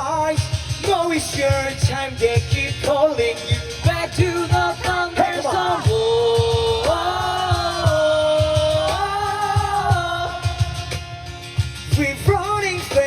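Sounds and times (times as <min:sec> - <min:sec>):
regular drumbeat: 0:00.0 - 0:13.0.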